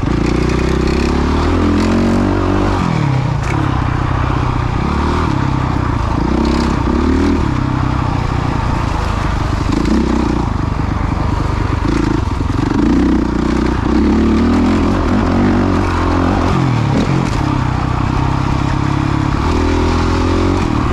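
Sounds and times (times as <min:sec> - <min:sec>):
motocross bike engine revving: 0:00.0 - 0:20.9.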